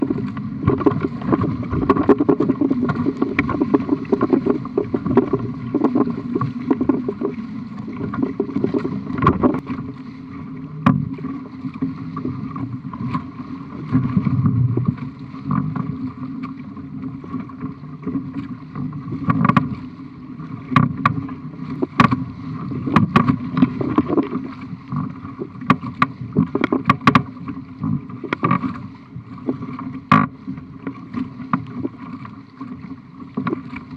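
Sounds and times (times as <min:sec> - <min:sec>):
water slapping against hull: 0:00.0 - 0:33.9
waves knocking on boat: 0:00.0 - 0:33.9.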